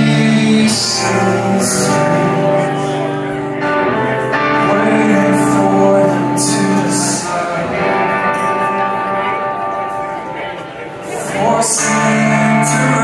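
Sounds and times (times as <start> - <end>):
amplified electric guitars: 0.0 - 13.0.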